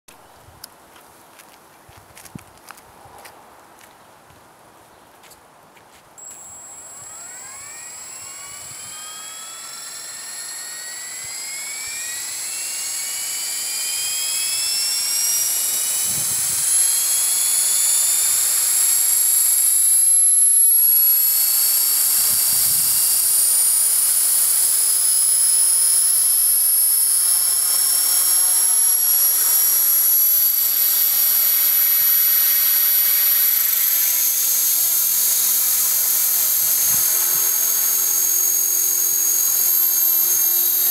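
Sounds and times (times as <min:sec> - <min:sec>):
rc helicopter motor whine: 0:06.2 - 0:40.9.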